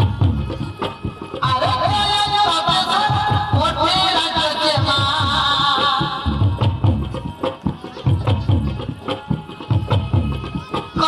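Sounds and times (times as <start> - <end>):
low drums beating: 0.0 - 11.0.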